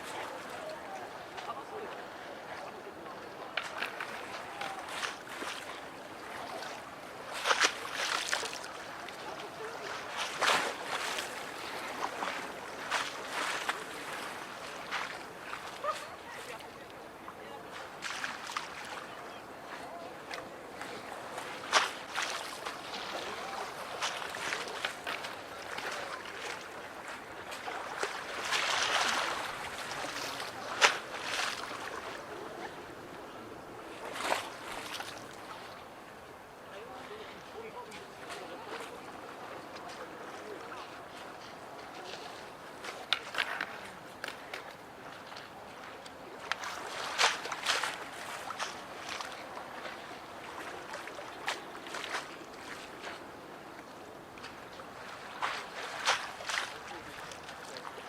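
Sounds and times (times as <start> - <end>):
waves lapping against a wall: 0.0 - 58.0.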